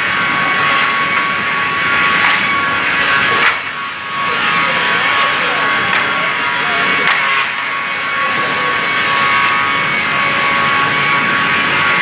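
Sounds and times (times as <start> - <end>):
rip saw cutting board: 0.0 - 12.0.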